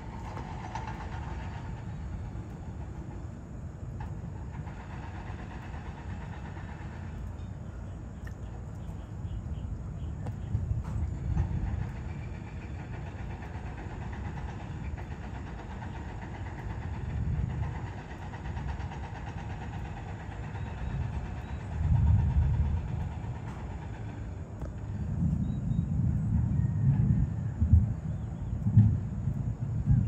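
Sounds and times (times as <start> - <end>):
distant thunder rumbling: 0.0 - 7.3, 8.6 - 30.0.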